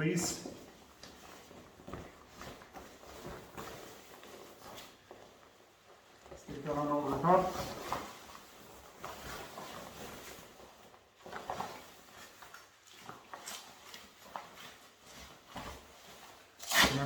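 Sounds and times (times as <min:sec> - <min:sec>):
fabric rustling: 0:00.0 - 0:17.0
small clicks and scuffs: 0:00.3 - 0:16.6.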